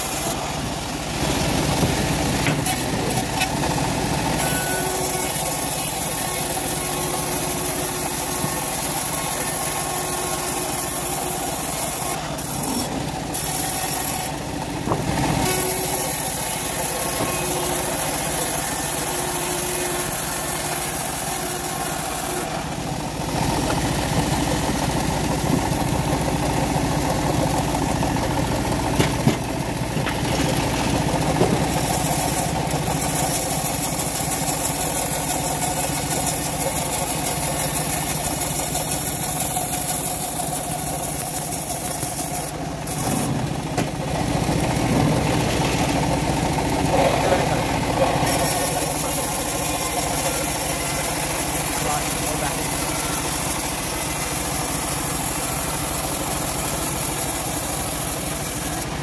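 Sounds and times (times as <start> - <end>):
bandsaw sawing timber: 0.0 - 59.0.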